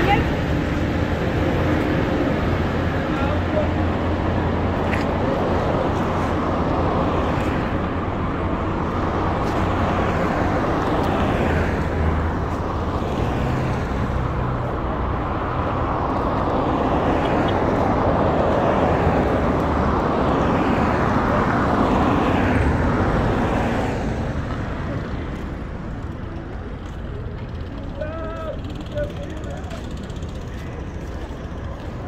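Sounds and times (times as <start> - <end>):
cars passing close by: 0.0 - 32.0
low rumble of engines: 0.0 - 32.0.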